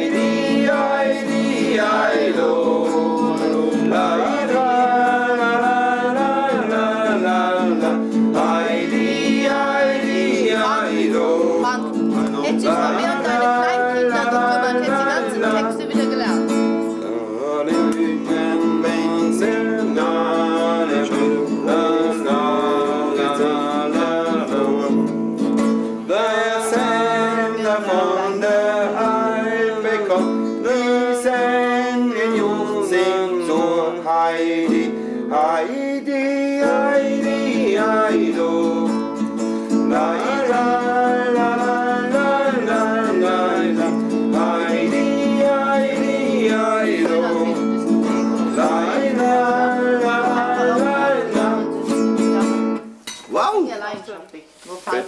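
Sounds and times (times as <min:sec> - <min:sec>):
person singing folk song: 0:00.0 - 0:53.0
acoustic guitar chords: 0:00.0 - 0:53.6.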